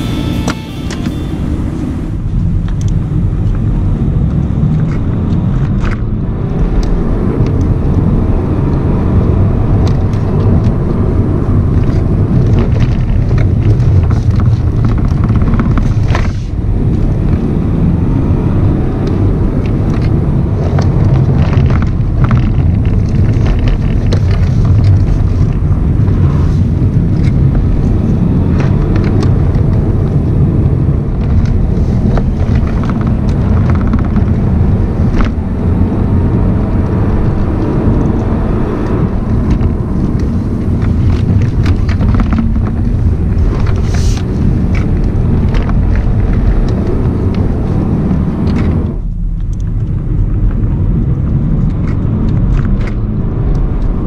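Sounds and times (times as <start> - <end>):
diesel car engine running: 0.0 - 54.0
tyre and road noise: 0.0 - 54.0.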